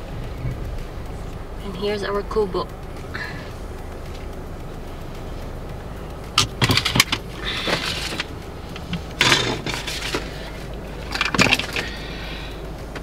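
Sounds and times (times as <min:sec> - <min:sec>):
car engine running low: 0:00.0 - 0:13.0
rattling and clinking: 0:00.0 - 0:13.0.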